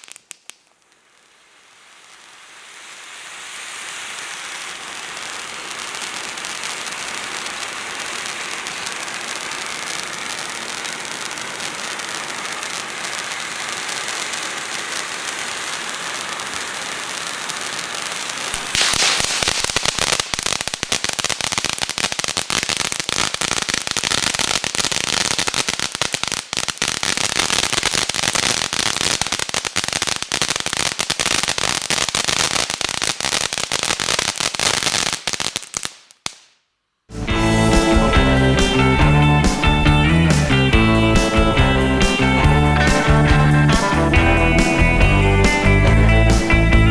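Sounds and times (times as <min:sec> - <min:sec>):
firework fountain hissing: 0:00.0 - 0:36.5, 0:37.1 - 0:46.9
firework crackling: 0:00.0 - 0:46.9.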